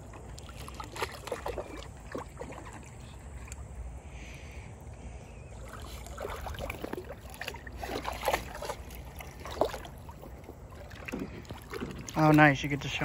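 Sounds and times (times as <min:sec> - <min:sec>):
water splashing in a plastic pool: 0:00.0 - 0:04.0, 0:05.4 - 0:13.0.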